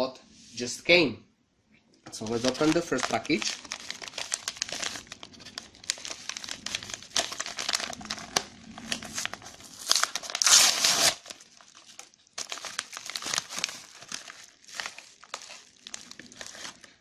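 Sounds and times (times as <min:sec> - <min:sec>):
packaging crinkling: 0:02.1 - 0:17.0
package tearing: 0:02.2 - 0:17.0.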